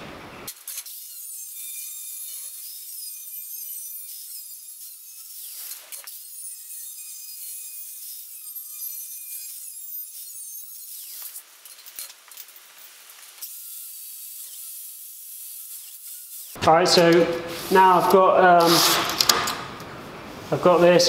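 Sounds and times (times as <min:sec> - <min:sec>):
angle grinder whining on steel: 0:00.7 - 0:19.3.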